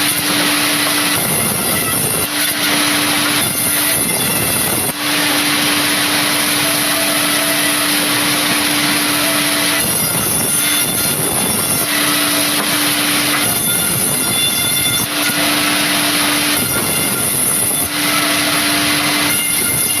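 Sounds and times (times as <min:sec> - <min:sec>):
woodworking machinery running: 0:00.0 - 0:20.0.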